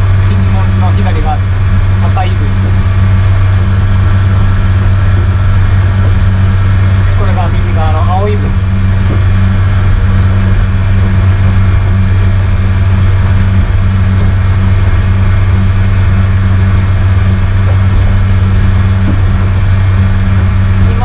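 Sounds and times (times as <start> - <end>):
outboard motor running: 0.0 - 21.0
rush of wind and water: 0.0 - 21.0.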